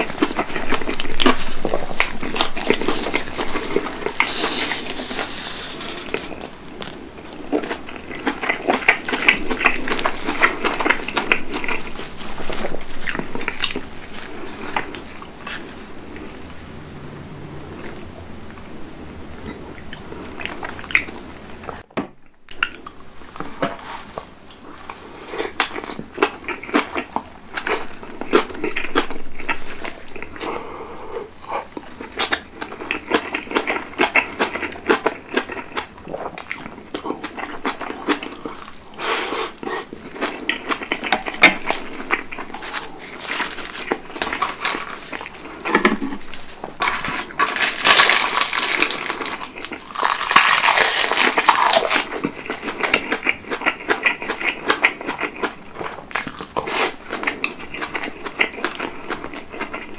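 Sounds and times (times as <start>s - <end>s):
person chewing and biting: 0.0s - 16.6s, 24.9s - 59.9s.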